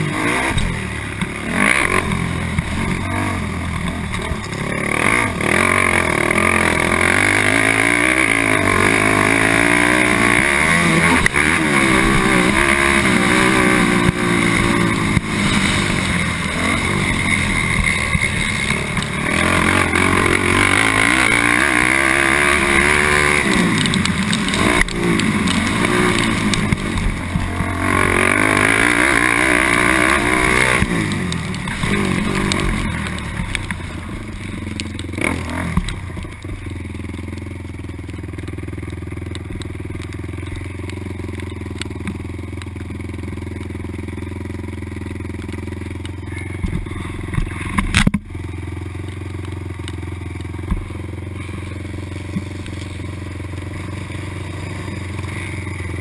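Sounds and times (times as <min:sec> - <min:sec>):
quad engine revving: 0:00.0 - 0:42.4, 0:43.0 - 0:56.0.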